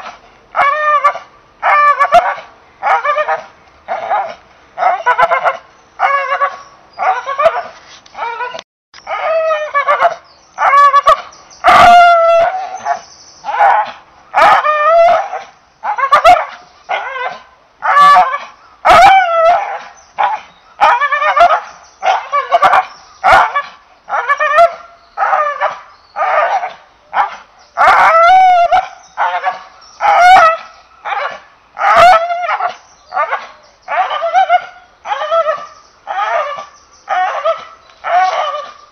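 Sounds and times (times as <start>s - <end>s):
dog yelping and whining: 0.6s - 38.8s.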